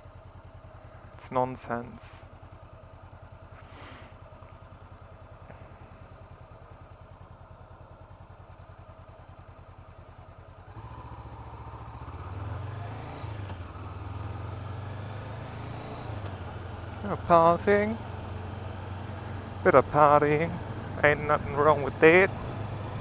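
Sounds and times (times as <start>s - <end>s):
motorcycle engine: 0.0s - 23.0s.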